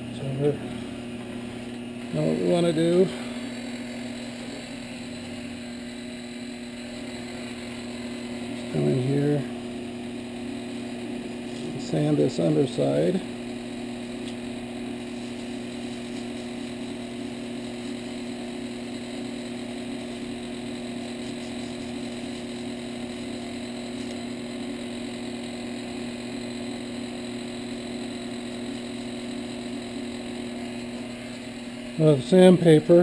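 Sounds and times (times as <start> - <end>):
wood lathe humming: 0.0 - 33.0.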